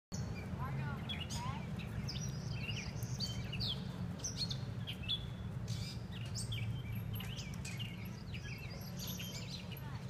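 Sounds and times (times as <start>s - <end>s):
songbirds chirping: 0.1s - 10.0s
steady low rumble: 0.2s - 10.0s.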